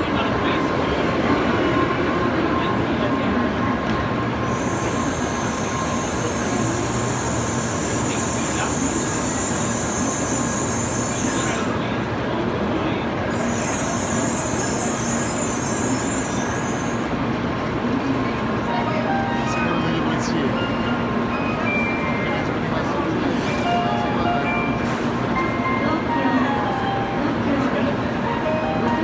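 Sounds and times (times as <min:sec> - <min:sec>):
train rumbling slowly: 0:00.0 - 0:29.0.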